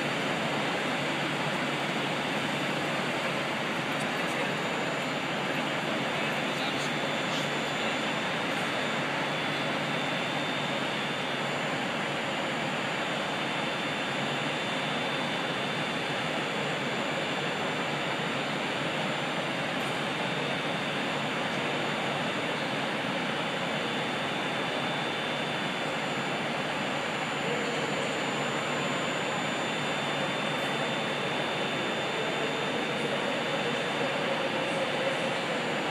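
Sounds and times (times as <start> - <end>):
trains running and idling: 0.0 - 35.9.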